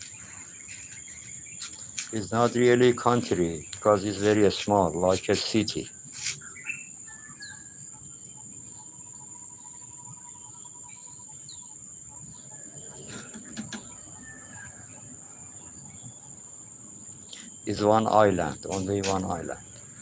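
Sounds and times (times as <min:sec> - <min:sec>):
faint bird chirps: 0:00.0 - 0:20.0
high-pitched insect chorus: 0:00.0 - 0:20.0.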